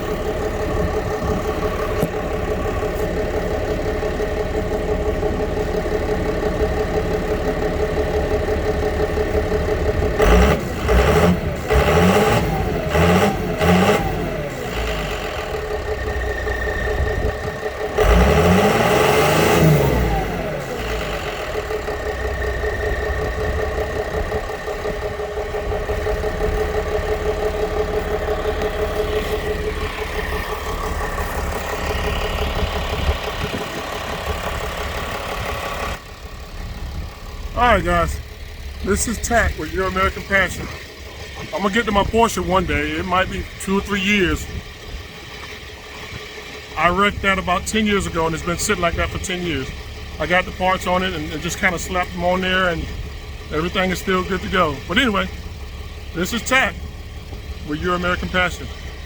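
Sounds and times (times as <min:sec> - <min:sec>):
diesel engine idling and revving: 0:00.0 - 0:59.0.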